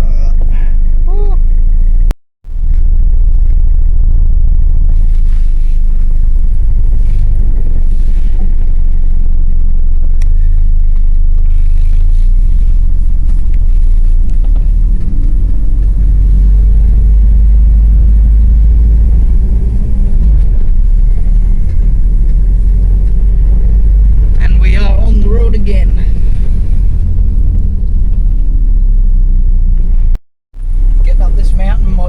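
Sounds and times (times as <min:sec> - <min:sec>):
vehicle engine and tyres rumbling: 0:00.0 - 0:32.0.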